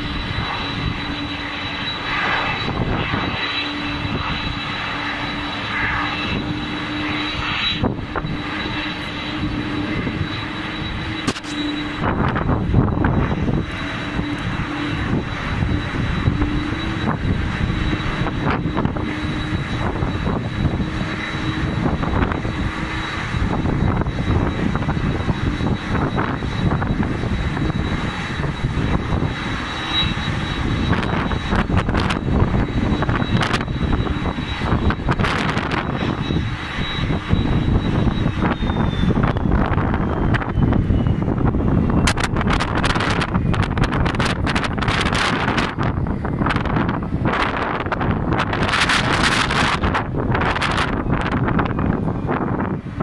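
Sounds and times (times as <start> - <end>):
jet airliner whine and rumble: 0.0 - 53.0
wind buffeting microphone: 0.0 - 53.0.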